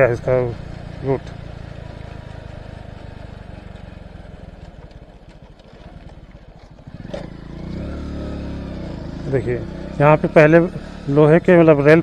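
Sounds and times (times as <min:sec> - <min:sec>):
motorcycle engine: 0:00.0 - 0:12.0
road noise: 0:00.0 - 0:12.0.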